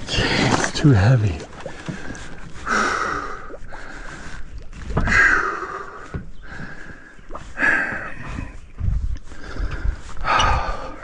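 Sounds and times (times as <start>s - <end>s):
person breathing hard with effort: 1.7s - 11.0s.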